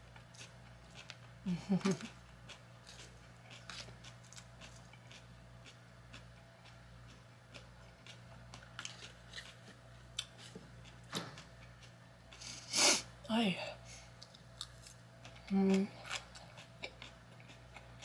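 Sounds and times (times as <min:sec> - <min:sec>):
low electrical hum: 0:00.0 - 0:18.0
chewing with mouth clicks: 0:00.1 - 0:12.6, 0:14.2 - 0:18.0.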